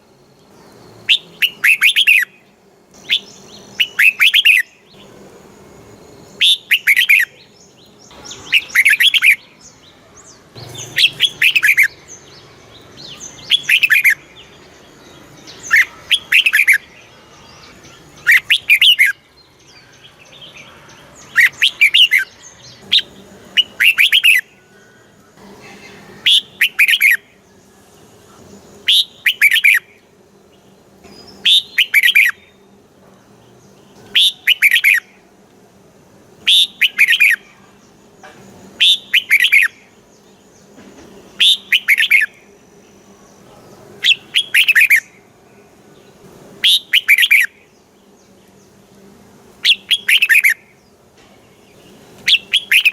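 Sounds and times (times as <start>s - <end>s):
bulbul singing: 0.0s - 52.9s.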